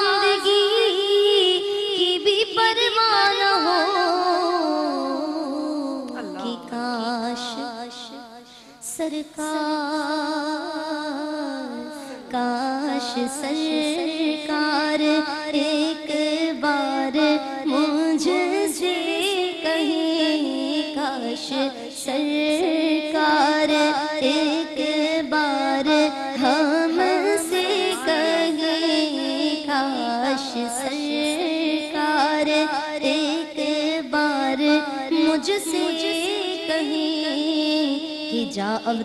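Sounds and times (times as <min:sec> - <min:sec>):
woman singing devotional song: 0:00.0 - 0:39.0.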